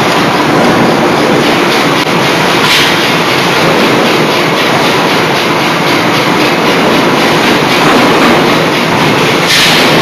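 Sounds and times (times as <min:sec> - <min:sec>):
forging machinery clatter: 0:00.0 - 0:10.0.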